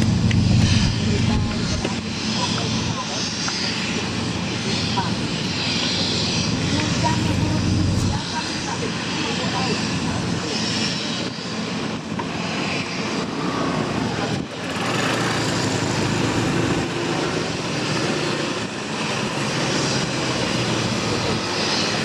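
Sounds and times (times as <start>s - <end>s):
engine drone: 0.0s - 22.0s
wind: 0.0s - 22.0s.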